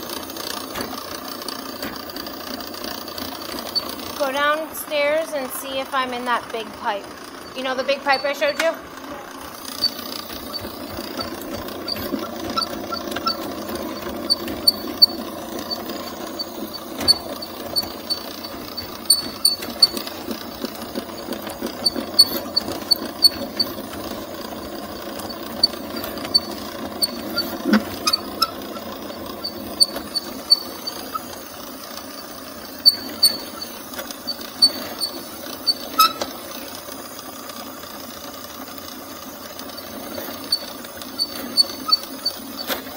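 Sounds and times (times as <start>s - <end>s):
drain snake machine running: 0.0s - 42.9s
cable clicks and squeaks in pipe: 1.7s - 4.4s, 7.4s - 8.8s, 9.6s - 36.8s, 39.5s - 42.9s.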